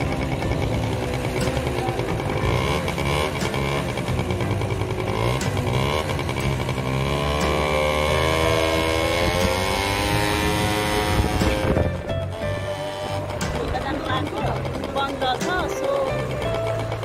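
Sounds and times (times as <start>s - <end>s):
motorbike engine pulling away: 0.0s - 17.0s.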